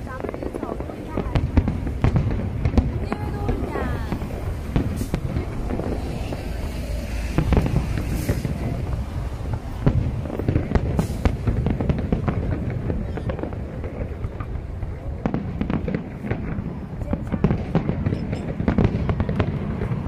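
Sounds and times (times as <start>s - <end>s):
continuous low rumble: 0.0s - 20.0s
fireworks bangs and crackles: 0.0s - 20.0s.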